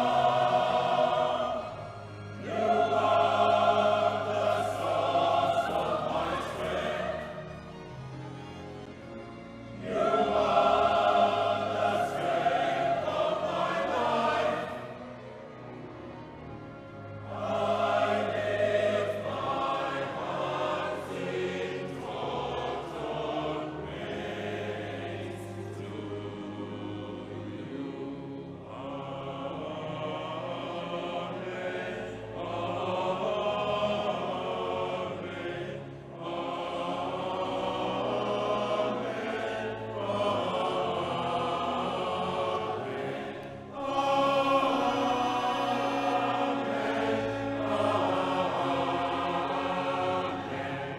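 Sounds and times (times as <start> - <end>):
choir singing: 0.0 - 50.9.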